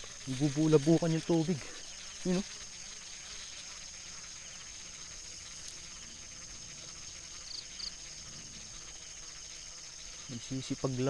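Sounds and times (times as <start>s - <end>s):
crickets and insects chorus: 0.0s - 11.0s.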